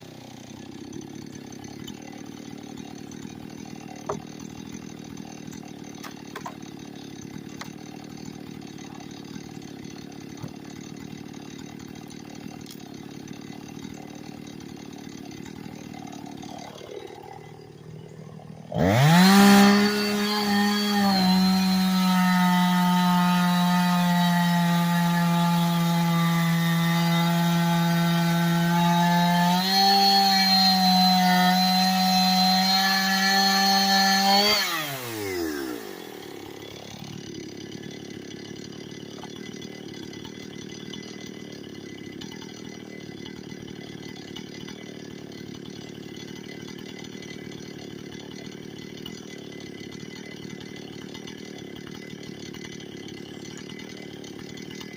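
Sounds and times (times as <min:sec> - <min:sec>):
chainsaw engine running: 0:00.0 - 0:54.9.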